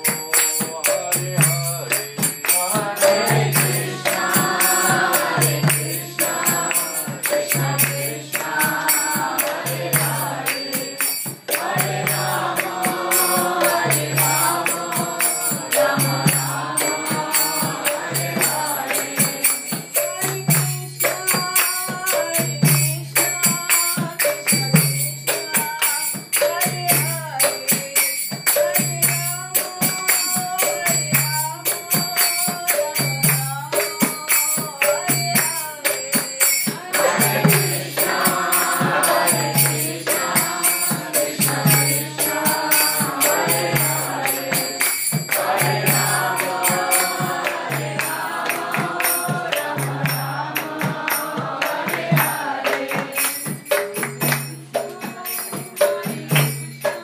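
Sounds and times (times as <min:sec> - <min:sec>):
jingling percussion: 0:00.0 - 0:57.0
many voices singing together: 0:00.0 - 0:57.0.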